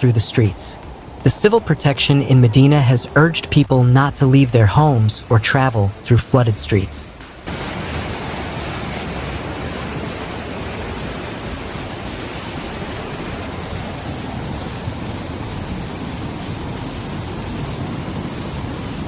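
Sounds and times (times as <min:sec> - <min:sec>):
floodwater rushing through street: 0:00.0 - 0:19.0.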